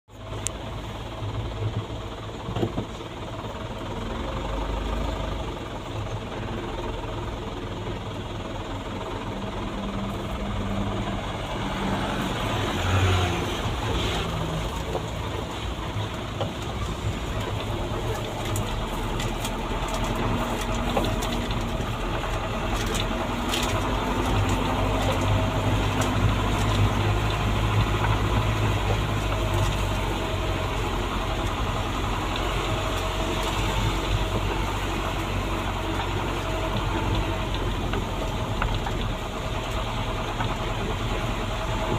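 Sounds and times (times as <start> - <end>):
truck engine running: 0.1 - 41.9.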